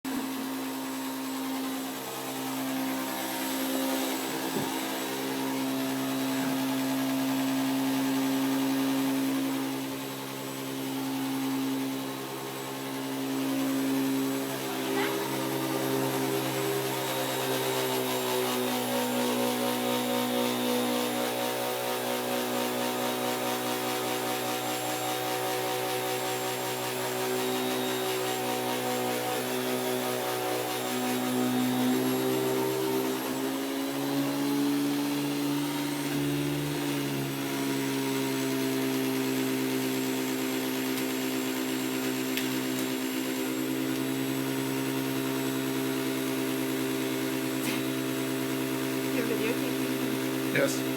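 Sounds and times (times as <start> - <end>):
vacuum cleaner motor whining: 0.1 - 50.9.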